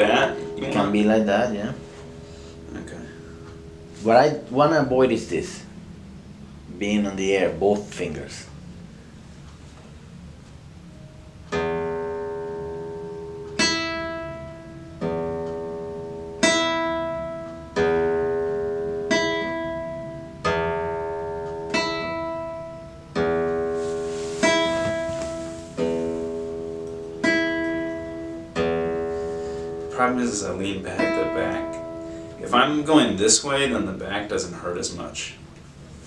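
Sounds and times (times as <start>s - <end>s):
classical guitar plucked chords: 0.0s - 5.9s, 10.6s - 35.9s.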